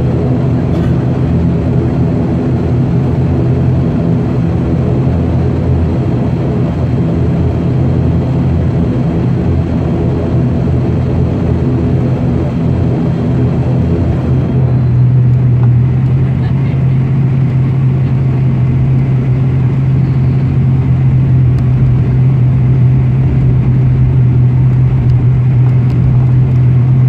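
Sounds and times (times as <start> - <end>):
turboprop engines droning in cabin: 0.0 - 27.0.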